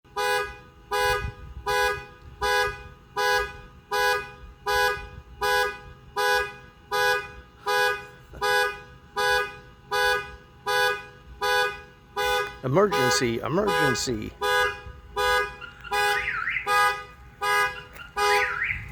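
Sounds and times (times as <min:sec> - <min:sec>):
car horn honking: 0:00.1 - 0:18.9.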